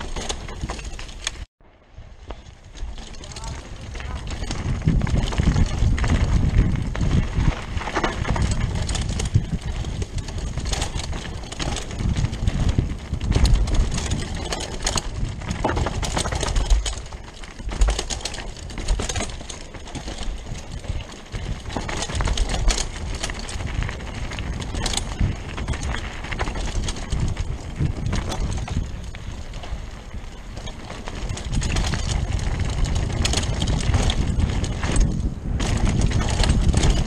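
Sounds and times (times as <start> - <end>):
bike clicks and rattles: 0.0 - 37.0
bike tyres rolling on dirt: 0.0 - 37.0
wind rushing over microphone: 1.8 - 37.0.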